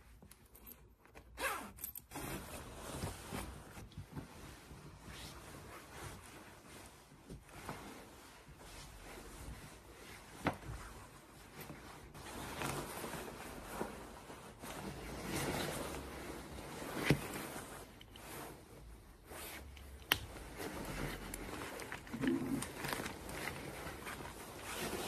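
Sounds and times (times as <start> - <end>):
puffer jackets rustling: 1.3 - 25.0.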